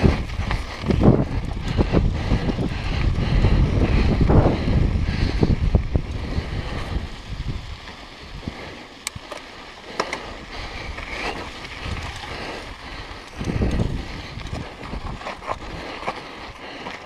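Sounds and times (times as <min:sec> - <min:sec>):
bike clicks and rattles: 0:00.0 - 0:17.0
bike rolling over rocky trail: 0:00.0 - 0:17.0
wind buffeting microphone: 0:00.0 - 0:17.0.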